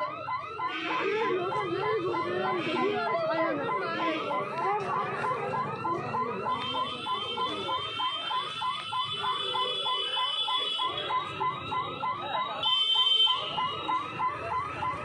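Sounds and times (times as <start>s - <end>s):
level crossing alarm chirps: 0.0s - 15.0s.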